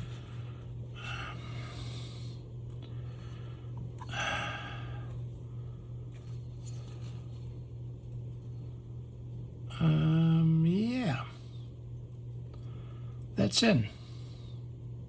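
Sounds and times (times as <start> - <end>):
soft breaths: 0.0 - 10.1, 12.4 - 13.3, 13.9 - 15.0
low room hum: 0.0 - 15.0.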